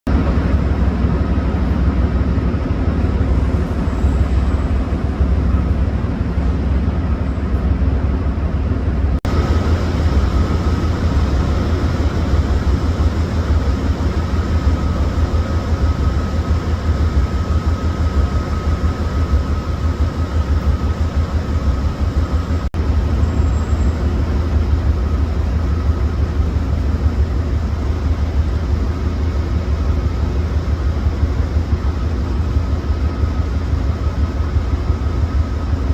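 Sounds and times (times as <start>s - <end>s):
diesel locomotive engine idling: 0.1s - 35.9s
faint steady whine: 0.2s - 35.9s.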